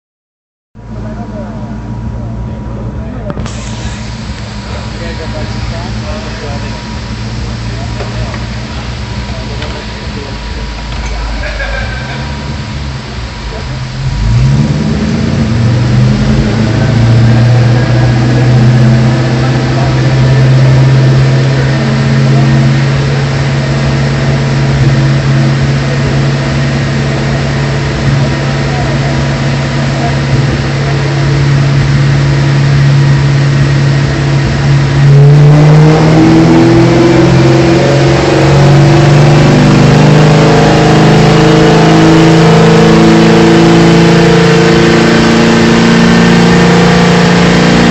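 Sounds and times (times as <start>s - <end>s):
car engine running on dyno: 0.8s - 47.9s
supercharger whine: 0.8s - 47.9s.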